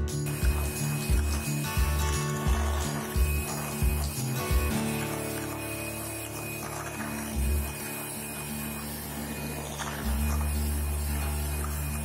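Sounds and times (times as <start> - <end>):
electric hand mixer whirring: 0.0 - 12.0
music with steady beat: 0.0 - 12.0.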